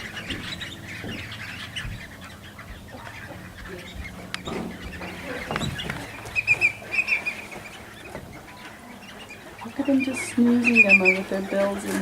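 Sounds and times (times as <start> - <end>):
waterfowl and birds calling: 0.0 - 12.0.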